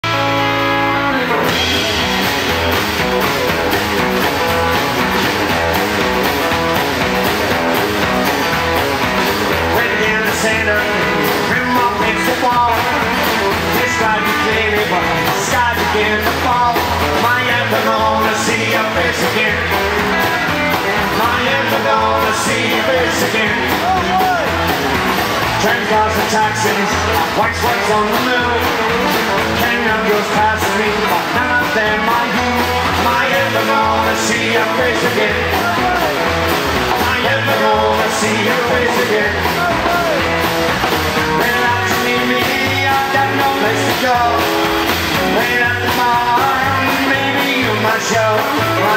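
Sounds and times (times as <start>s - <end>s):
acoustic rhythm guitar: 0.0s - 48.9s
drums: 0.0s - 48.9s
electric guitar lead: 0.0s - 48.9s
upright bass: 0.0s - 48.9s.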